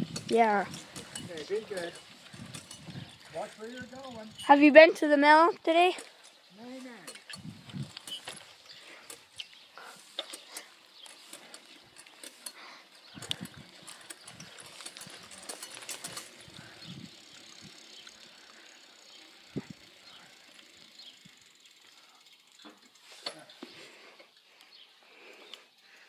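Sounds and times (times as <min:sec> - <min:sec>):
freewheel clicking: 0:00.0 - 0:04.6, 0:05.2 - 0:23.4
bicycle rattling: 0:00.0 - 0:26.0.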